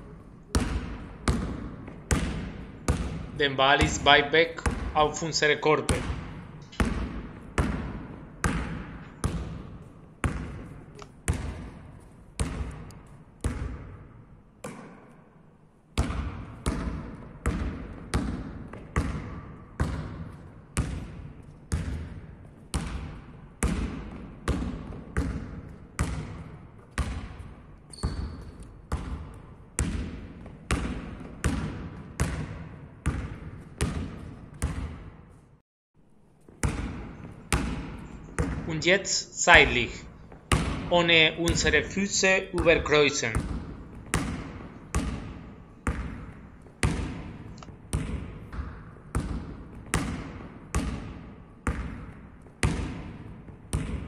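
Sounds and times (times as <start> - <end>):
basketball bouncing on hall floor: 0.0 - 35.6, 36.2 - 54.0.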